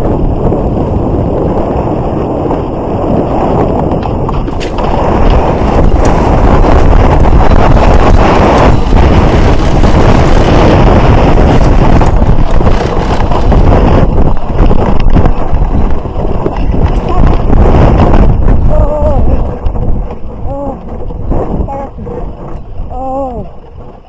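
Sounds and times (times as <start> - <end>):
dense rumble: 0.0 - 24.0
wind buffeting microphone: 0.0 - 24.0.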